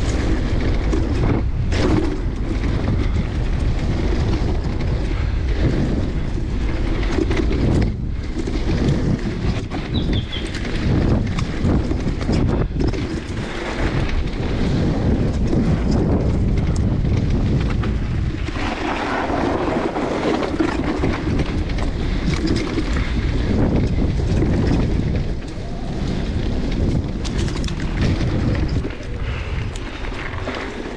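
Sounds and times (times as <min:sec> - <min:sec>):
bike rattling and knocking: 0:00.0 - 0:30.9
tyres rolling on dirt: 0:00.0 - 0:30.9
wind rushing over microphone: 0:00.0 - 0:30.9.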